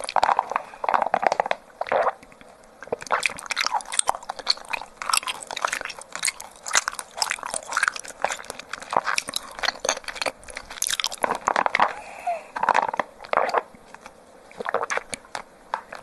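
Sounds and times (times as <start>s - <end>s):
wet chewing clicks and smacks: 0.0s - 12.0s, 12.6s - 16.0s.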